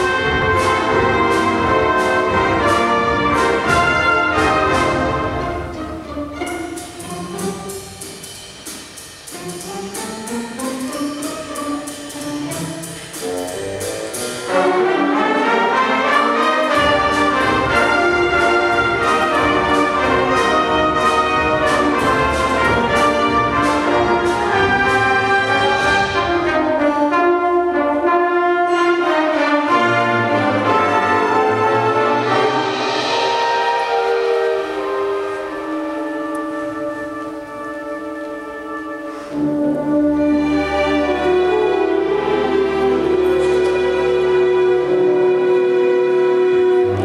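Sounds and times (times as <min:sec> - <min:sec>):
brass section: 0:00.0 - 0:06.6, 0:11.9 - 0:47.0
symphony orchestra playing: 0:00.0 - 0:47.0.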